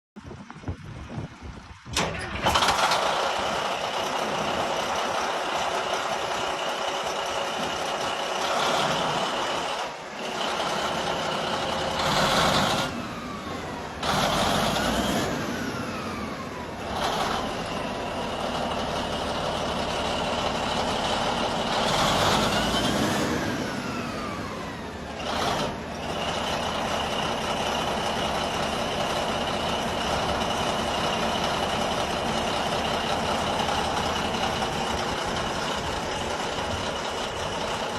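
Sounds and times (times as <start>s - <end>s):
bulldozer diesel engine revving: 2.2s - 37.9s.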